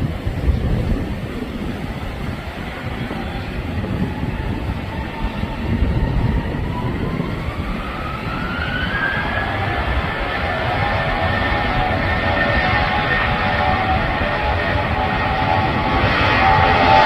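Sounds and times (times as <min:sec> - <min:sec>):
jet engines during takeoff: 0:00.0 - 0:17.0.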